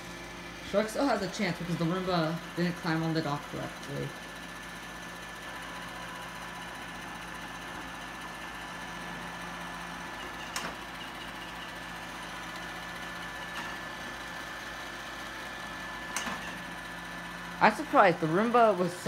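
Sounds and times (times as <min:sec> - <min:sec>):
robot vacuum motor hum and whine: 0:00.0 - 0:19.0.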